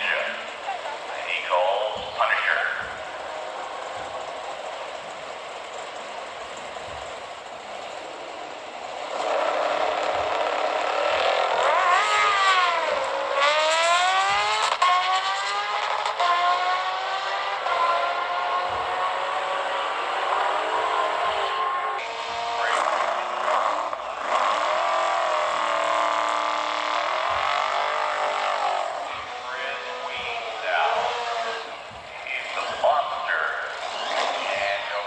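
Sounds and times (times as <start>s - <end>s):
drag car engine racing: 0.0s - 35.0s
sportbike engine racing: 0.0s - 35.0s.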